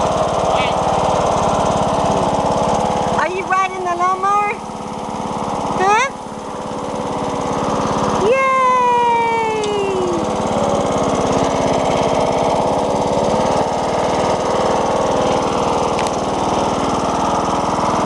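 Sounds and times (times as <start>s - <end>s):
riding lawn mower engine: 0.0s - 18.0s.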